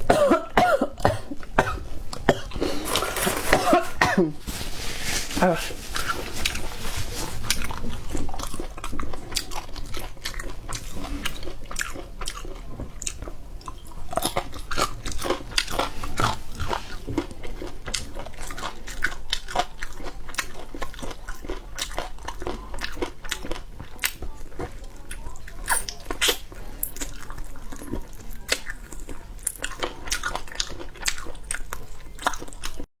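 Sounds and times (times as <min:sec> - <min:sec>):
person chewing crunchy food: 0:04.8 - 0:32.8.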